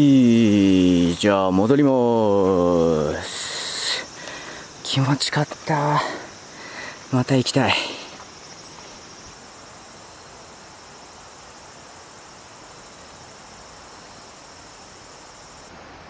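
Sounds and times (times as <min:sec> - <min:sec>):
faint hiss: 0:00.0 - 0:16.0
high-pitched insect chorus: 0:00.0 - 0:16.0.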